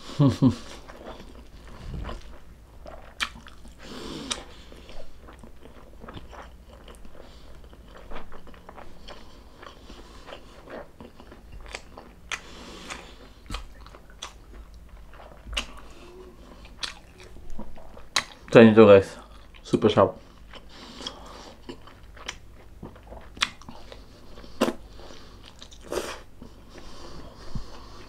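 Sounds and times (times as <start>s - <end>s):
person chewing and biting food: 0.6s - 18.6s, 20.3s - 28.0s.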